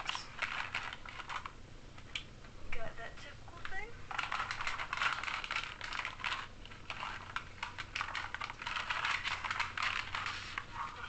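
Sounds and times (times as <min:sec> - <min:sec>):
plastic parts clicking and clattering: 0:00.0 - 0:01.6, 0:03.6 - 0:11.0.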